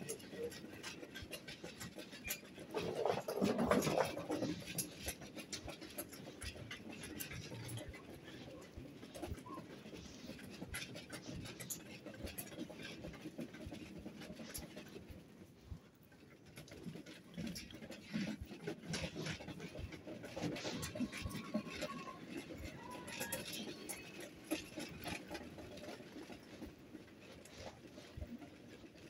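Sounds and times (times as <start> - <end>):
shop ambience: 0.0 - 29.0.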